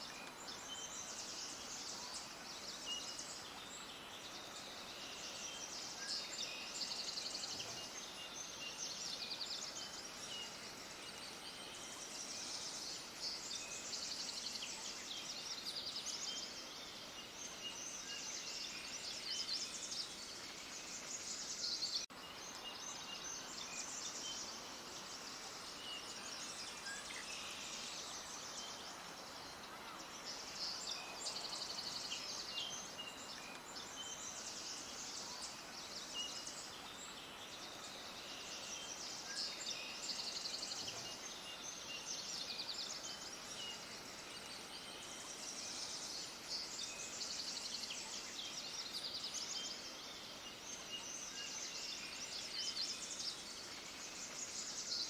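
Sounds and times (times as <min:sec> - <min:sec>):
background hiss: 0:00.0 - 0:55.0
songbirds chirping and trilling: 0:00.0 - 0:55.0.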